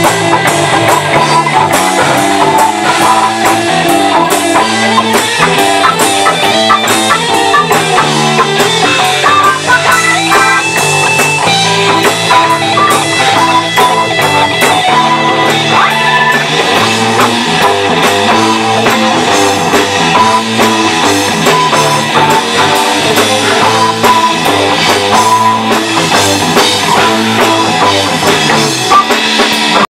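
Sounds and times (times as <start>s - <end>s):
drum kit: 0.0s - 29.9s
electric bass: 0.0s - 29.9s
electric guitar: 0.0s - 29.9s.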